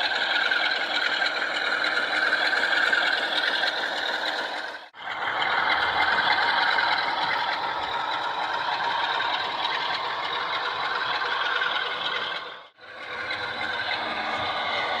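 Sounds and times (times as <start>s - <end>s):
diesel engine through small speaker: 0.0s - 15.0s.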